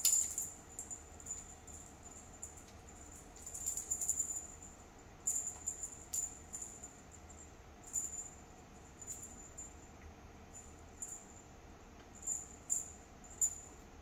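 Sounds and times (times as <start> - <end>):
small bell jingling: 0.0 - 9.9, 10.5 - 11.5, 12.2 - 13.8.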